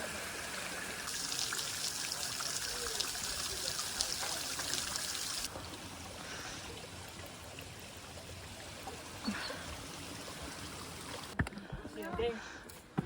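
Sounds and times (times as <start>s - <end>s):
water trickling: 0.0s - 11.4s.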